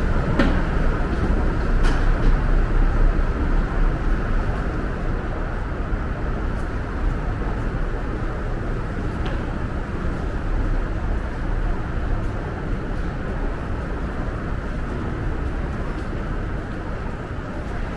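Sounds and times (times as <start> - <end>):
subway station rumble: 0.0 - 17.9.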